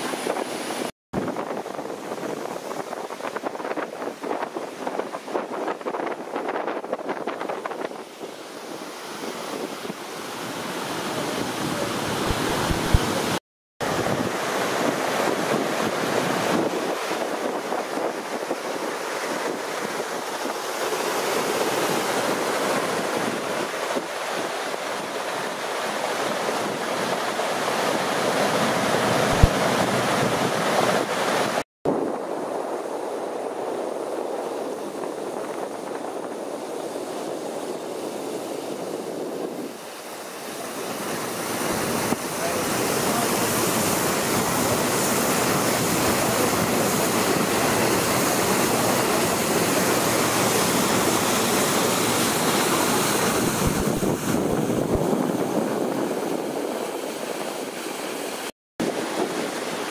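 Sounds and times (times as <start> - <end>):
water churning along boat: 0.0 - 59.9
wind rushing on microphone: 0.0 - 59.9.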